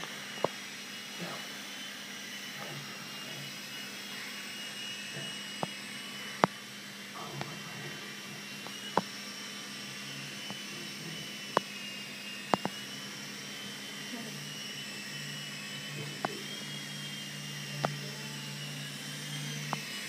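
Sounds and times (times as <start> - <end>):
rc helicopter rotor whining: 0.0 - 20.0.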